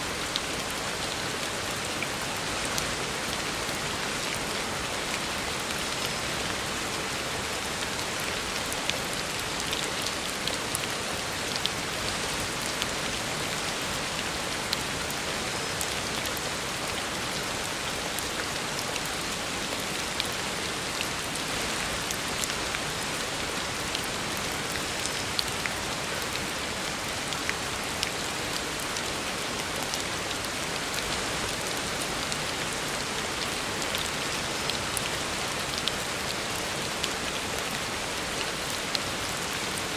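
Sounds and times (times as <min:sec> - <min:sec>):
heavy rain on a road: 0:00.0 - 0:39.9.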